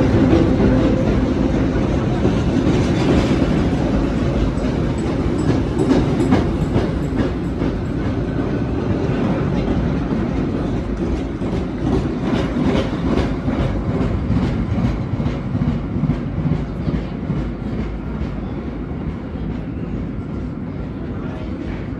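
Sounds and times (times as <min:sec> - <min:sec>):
subway train wheels rumbling: 0:00.0 - 0:21.9.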